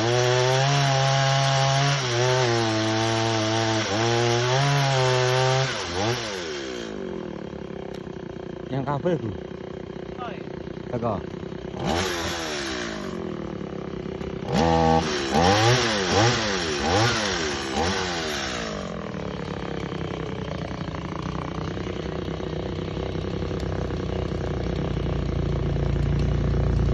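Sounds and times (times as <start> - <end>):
chainsaw engine revving and idling: 0.0 - 26.9.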